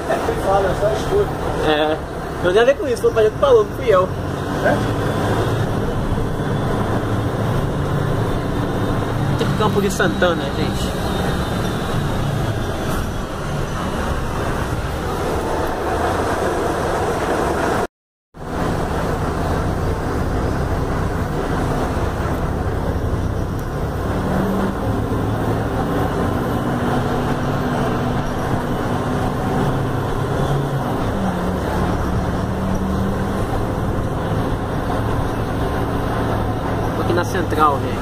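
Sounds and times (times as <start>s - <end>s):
bus diesel engine running: 0.0s - 38.0s
road and traffic noise: 0.0s - 38.0s.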